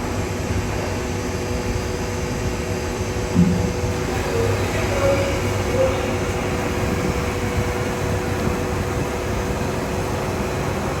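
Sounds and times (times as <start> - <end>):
workshop machinery running: 0.0 - 11.0.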